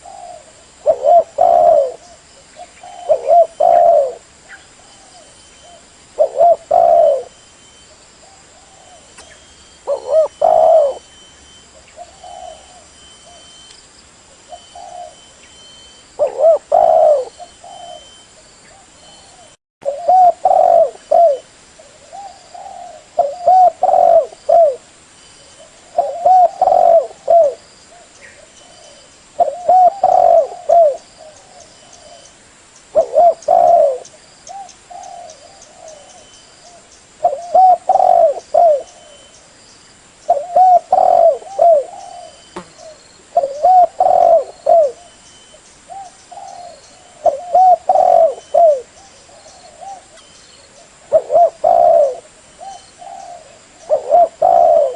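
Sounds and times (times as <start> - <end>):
dove cooing: 0.0 - 4.3, 4.9 - 7.4, 8.3 - 11.1, 11.8 - 13.5, 14.4 - 15.4, 16.2 - 24.8, 25.5 - 32.3, 32.9 - 39.4, 40.3 - 45.2, 45.9 - 54.9.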